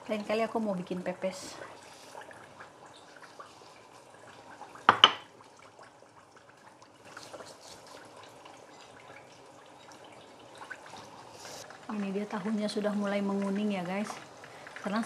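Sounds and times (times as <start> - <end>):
faint trickling water: 0.0 - 15.0.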